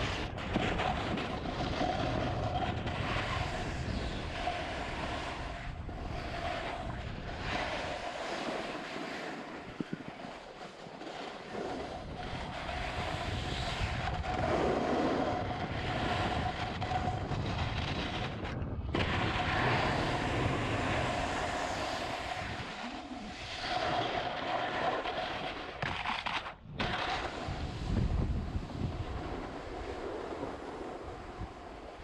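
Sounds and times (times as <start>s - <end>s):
skis scraping on snow: 0.0s - 32.0s
wind buffeting microphone: 0.0s - 32.0s.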